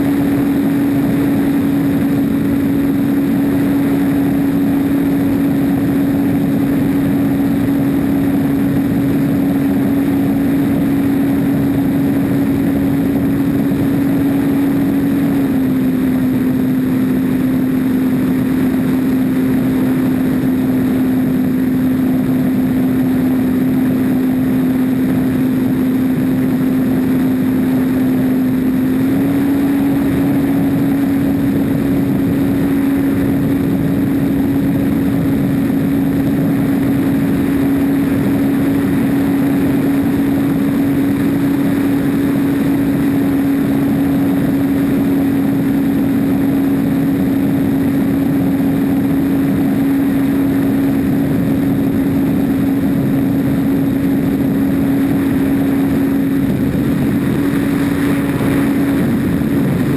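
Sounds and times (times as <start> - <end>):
airflow rushing: 0.0 - 59.9
model plane propeller hum: 0.0 - 59.9.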